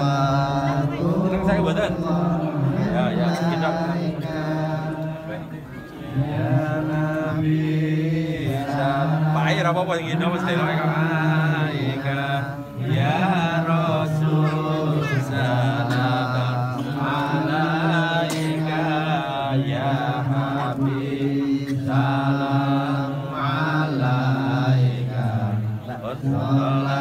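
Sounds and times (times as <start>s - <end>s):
men chanting devotional praise: 0.0s - 27.0s.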